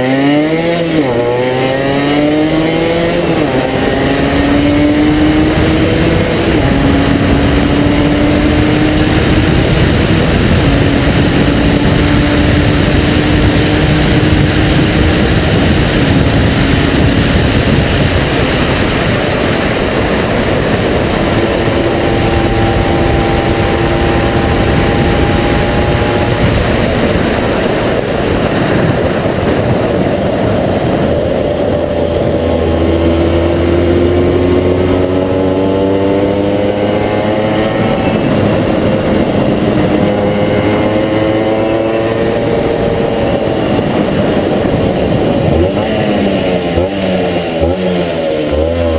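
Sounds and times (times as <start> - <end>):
two-stroke motorcycle engine running: 0.0 - 48.9.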